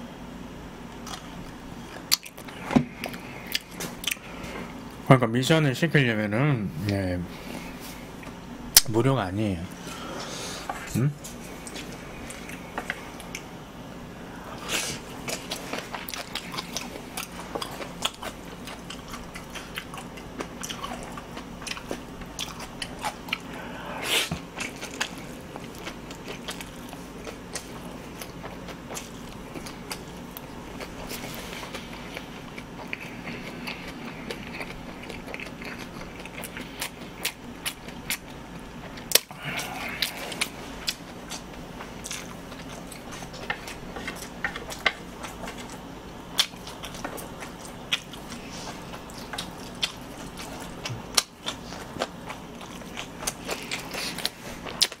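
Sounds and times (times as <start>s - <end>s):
chewing: 0.9s - 5.0s, 10.6s - 13.5s, 14.3s - 55.0s.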